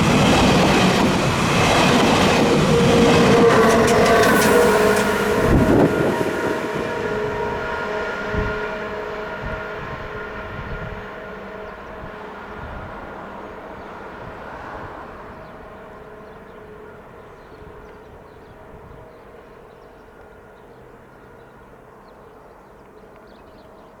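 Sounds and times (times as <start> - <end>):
train rumbling past: 0.0 - 22.7.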